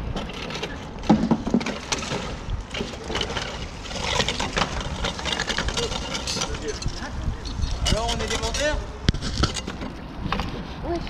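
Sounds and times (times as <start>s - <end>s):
metal scraping and clanking on stone: 0.1s - 10.0s.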